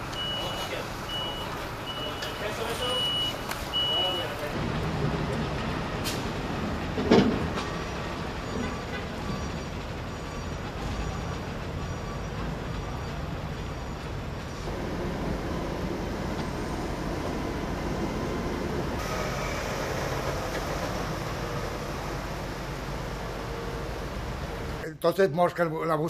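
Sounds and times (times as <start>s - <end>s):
heavy vehicle engines droning: 0.0s - 24.8s
outdoor background noise: 0.0s - 26.0s.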